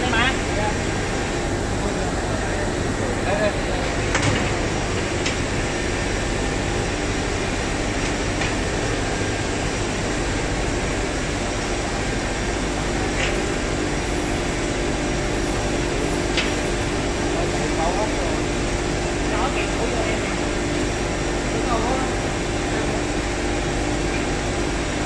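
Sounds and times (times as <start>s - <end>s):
loud machinery drone: 0.0s - 25.0s.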